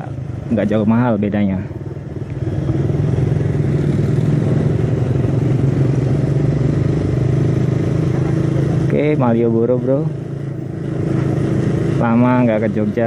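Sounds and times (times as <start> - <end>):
motorcycle engine humming: 0.0 - 13.0.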